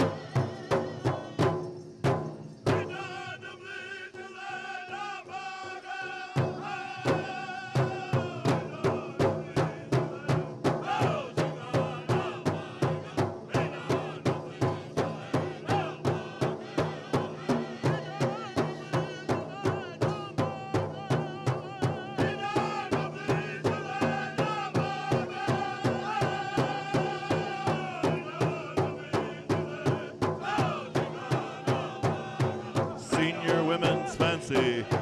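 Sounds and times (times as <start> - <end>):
chorus of singers: 0.0 - 1.8, 2.6 - 35.0
large drum beats: 0.0 - 3.0, 6.4 - 35.0.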